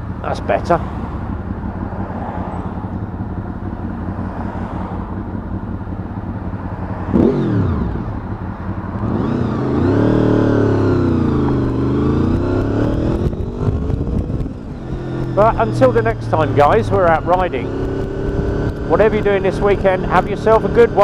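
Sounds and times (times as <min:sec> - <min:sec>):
motorcycle engine: 0:00.0 - 0:21.0
road and wind noise: 0:00.0 - 0:21.0.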